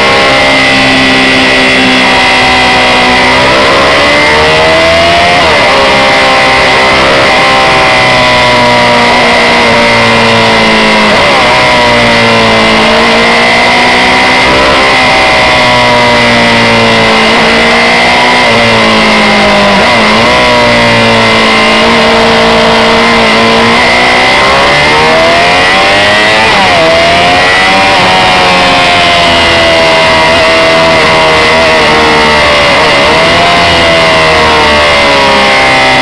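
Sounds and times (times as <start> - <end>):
motorcycle engine changing gears: 0.0 - 36.0.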